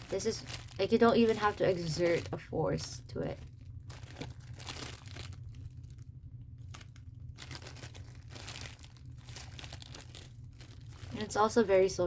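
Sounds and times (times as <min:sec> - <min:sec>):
foam toy crinkling and rustling: 0:00.0 - 0:12.0
low hum: 0:00.0 - 0:12.0.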